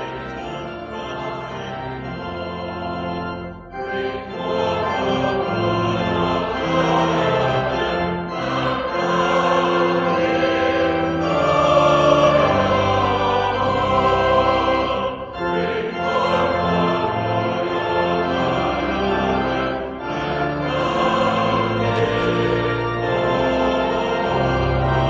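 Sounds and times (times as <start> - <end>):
choir singing a hymn: 0.0 - 25.0
pipe organ: 0.0 - 25.0.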